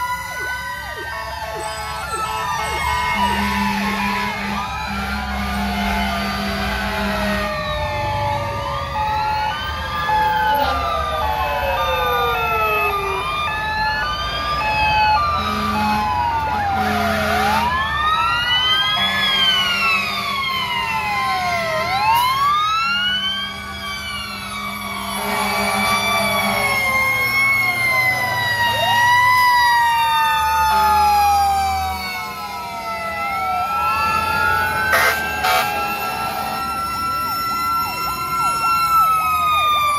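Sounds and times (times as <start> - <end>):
choppy on-off siren tone: 0.0 - 39.9
sirens wailing: 0.0 - 39.9.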